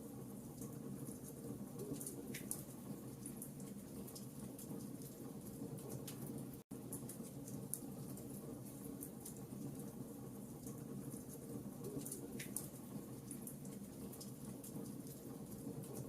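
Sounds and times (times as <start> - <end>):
wood fire crackling and popping: 0.6 - 16.0.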